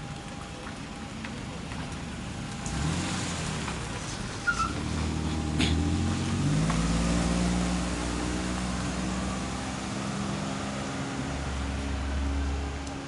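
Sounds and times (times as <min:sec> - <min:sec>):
street noise: 0:00.0 - 0:13.0
vehicle engine running: 0:00.0 - 0:13.0.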